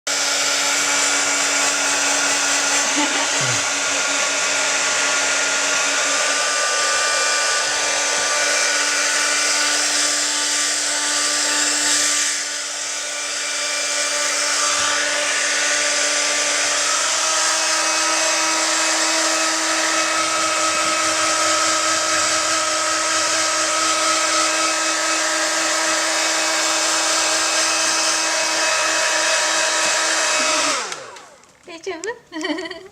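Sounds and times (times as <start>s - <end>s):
hair dryer running: 0.1s - 31.8s.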